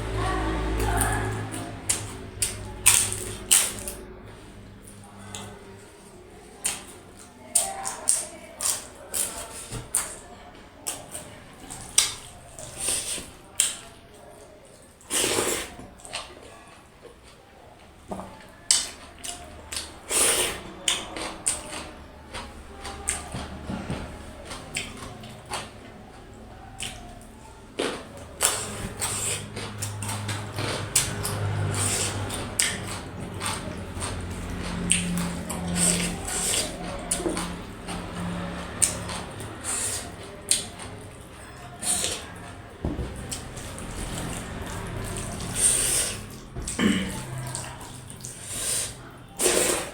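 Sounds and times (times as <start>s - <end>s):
person chewing and lip smacking: 0.0s - 4.0s, 6.5s - 14.0s, 18.7s - 23.5s, 24.4s - 25.9s, 26.7s - 42.6s, 43.2s - 49.9s.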